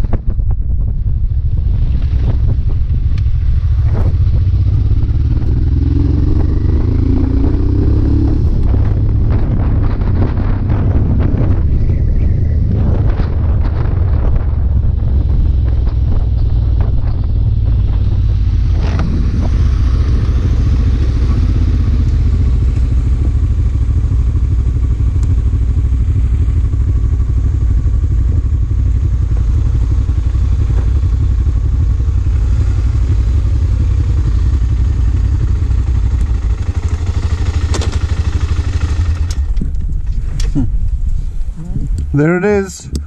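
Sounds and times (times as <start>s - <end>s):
motorcycle engine running: 0.0s - 42.4s
wind rumble on microphone: 0.0s - 43.0s.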